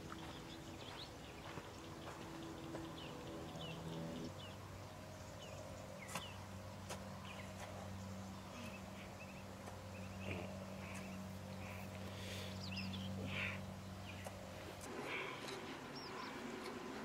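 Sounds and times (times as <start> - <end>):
faint birds chirping: 0.0 - 17.0
low steady hum: 0.0 - 17.0.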